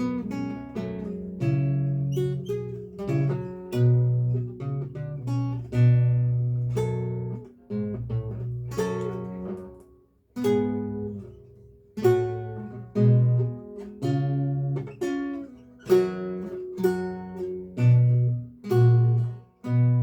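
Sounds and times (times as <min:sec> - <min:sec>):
solo lute playing: 0:00.0 - 0:20.0.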